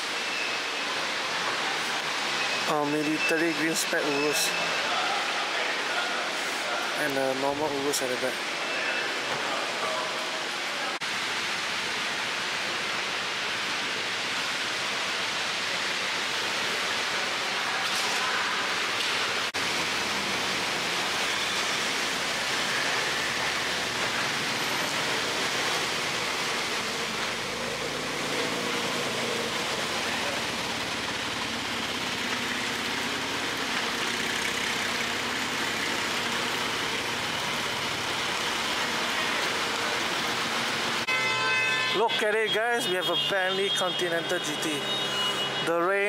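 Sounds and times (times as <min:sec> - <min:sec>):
rain hissing: 0:00.0 - 0:41.1.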